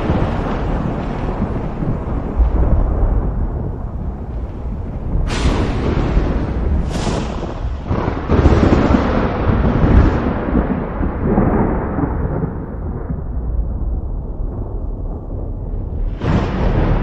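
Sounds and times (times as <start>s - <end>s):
thunder crack and rolling rumble: 0.0s - 17.0s.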